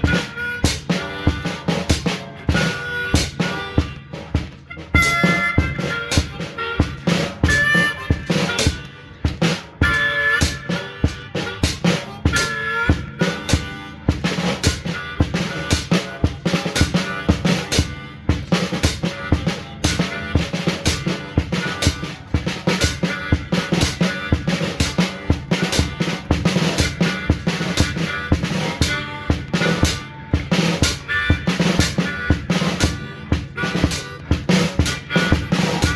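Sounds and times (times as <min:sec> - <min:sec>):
drum kit beat: 0:00.0 - 0:35.9
harmonica bent notes: 0:00.0 - 0:35.9.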